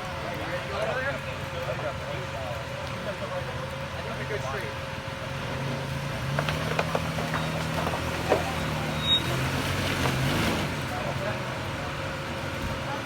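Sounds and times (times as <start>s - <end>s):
engine working under load: 0.0s - 13.0s.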